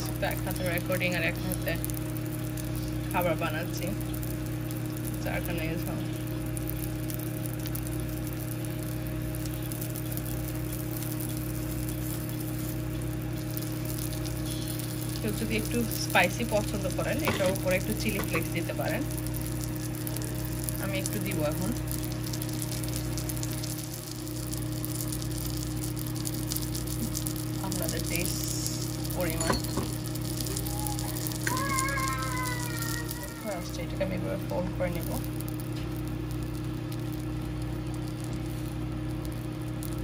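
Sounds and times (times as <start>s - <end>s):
low hum: 0.0s - 40.0s
omelette sizzling in frying pan: 0.0s - 40.0s.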